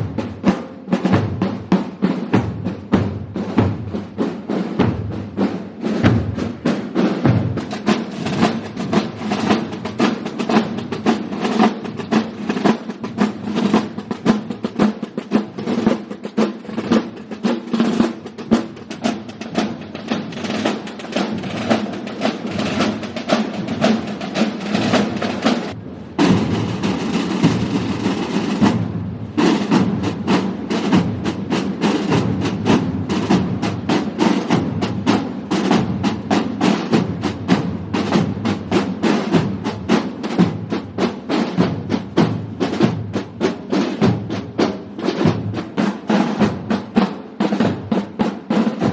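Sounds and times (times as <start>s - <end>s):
drum rolls: 0.0s - 48.9s
massed drums beating: 0.0s - 48.9s.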